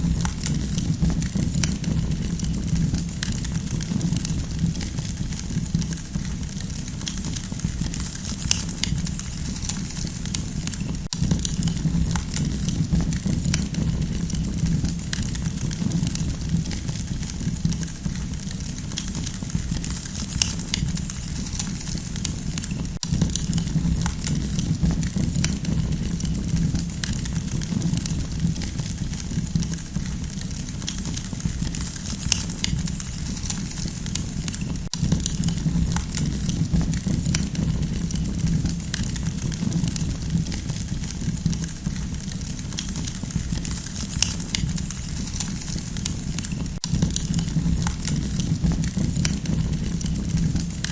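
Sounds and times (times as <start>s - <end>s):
burning wood crackling and popping: 0.0s - 50.9s
campfire low rumble: 0.0s - 50.9s.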